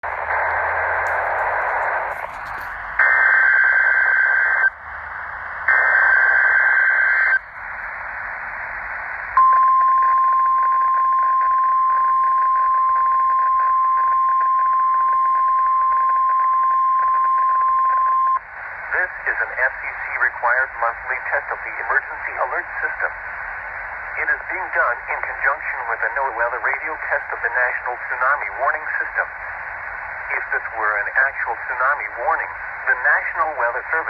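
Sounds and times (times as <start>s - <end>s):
radio receiver hiss: 0.0s - 16.3s, 16.9s - 34.0s.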